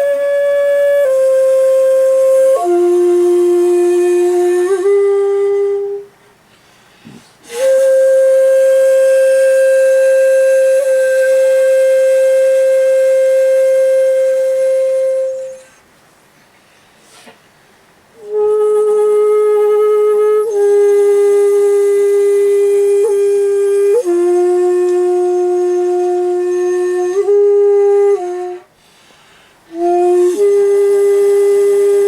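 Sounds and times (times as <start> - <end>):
bamboo flute held notes: 0.0 - 6.2, 7.0 - 15.9, 18.2 - 32.0.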